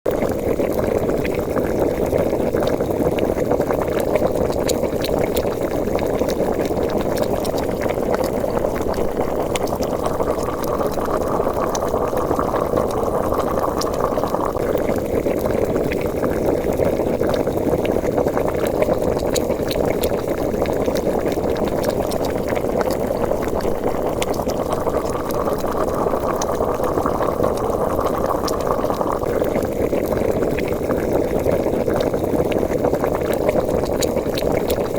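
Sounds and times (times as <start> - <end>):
liquid boiling and bubbling: 0.0 - 34.9.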